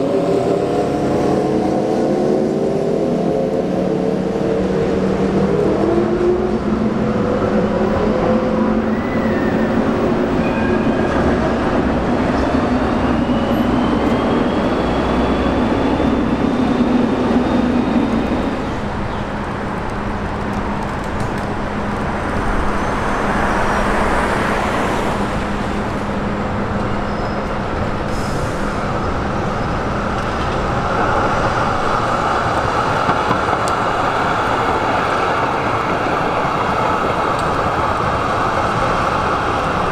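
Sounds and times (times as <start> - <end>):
electric trams passing: 0.0 - 39.9
road traffic: 0.0 - 39.9.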